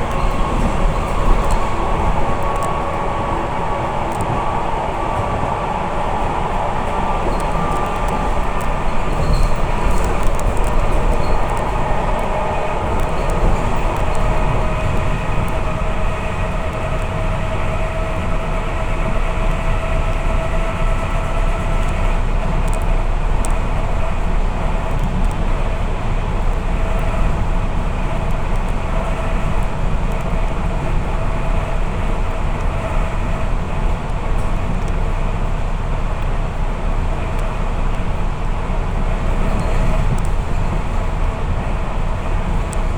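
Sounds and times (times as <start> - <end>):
steady train whine: 0.0 - 42.9
train wheels rumbling on track: 0.0 - 42.9.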